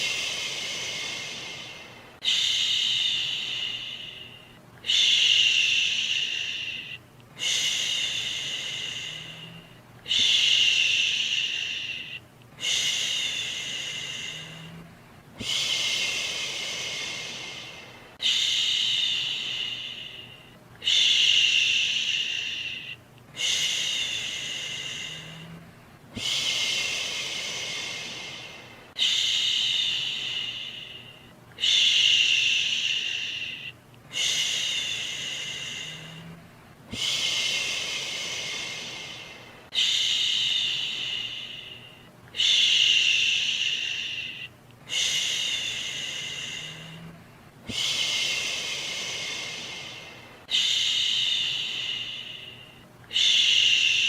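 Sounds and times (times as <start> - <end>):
person shushing: 0.0 - 54.0.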